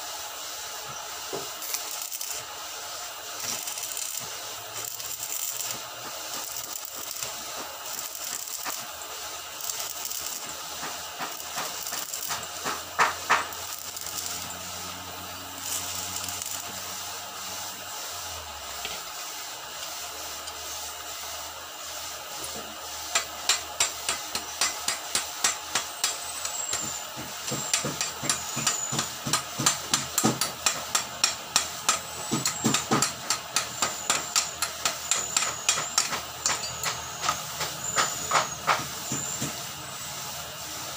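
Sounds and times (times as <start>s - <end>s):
welding arc crackling: 0.0s - 40.9s.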